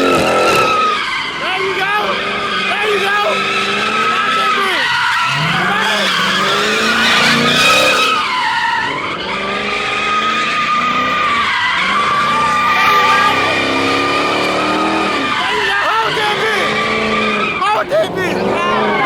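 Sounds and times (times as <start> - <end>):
car engine revving: 0.0 - 19.0
tires squealing: 0.0 - 19.0.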